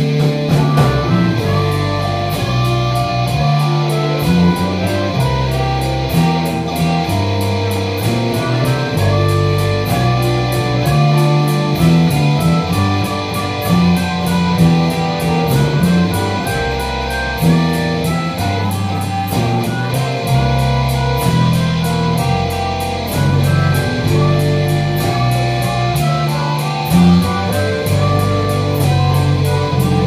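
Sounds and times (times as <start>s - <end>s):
drums with steady cymbal beat: 0.0s - 30.0s
electric guitars playing blues: 0.0s - 30.0s
walking bass: 0.0s - 30.0s.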